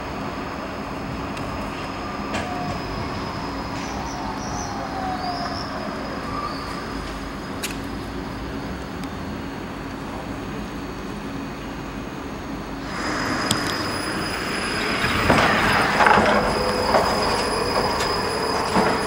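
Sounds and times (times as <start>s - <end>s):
tram electric drive humming: 0.0s - 19.0s
wheels clicking and squeaking on rails: 0.1s - 9.3s, 12.7s - 19.0s.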